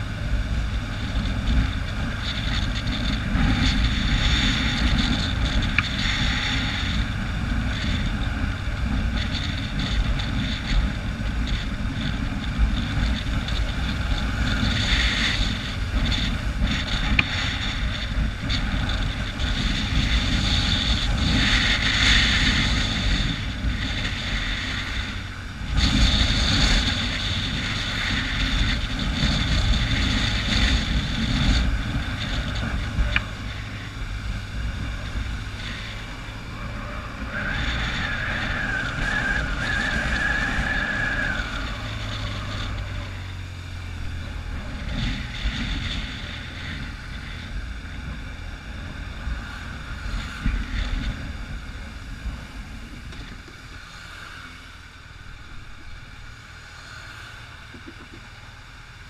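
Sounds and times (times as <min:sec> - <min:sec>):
high steady whine: 0:00.0 - 0:59.0
motorcycle engine running: 0:00.0 - 0:59.0
wind rushing over microphone: 0:00.0 - 0:59.0.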